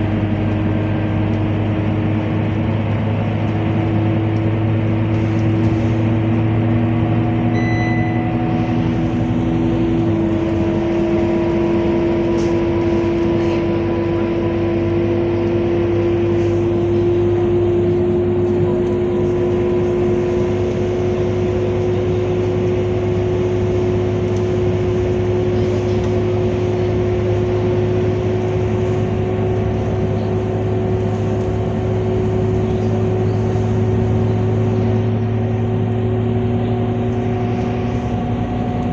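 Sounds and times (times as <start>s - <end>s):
bus engine humming with whine: 0.0s - 38.9s.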